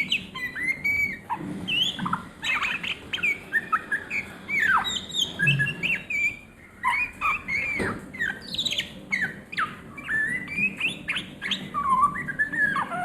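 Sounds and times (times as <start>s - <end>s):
bird singing whistled notes: 0.0s - 13.0s.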